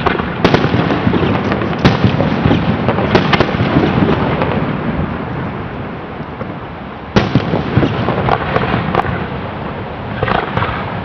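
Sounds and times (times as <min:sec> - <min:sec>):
fireworks bangs: 0:00.0 - 0:05.6, 0:06.3 - 0:11.0
fireworks crackling: 0:00.0 - 0:11.0.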